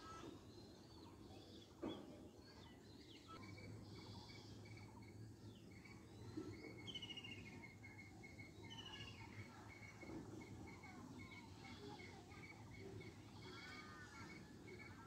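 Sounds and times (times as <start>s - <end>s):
birds calling: 0.0s - 15.0s
bird trill: 2.5s - 15.0s.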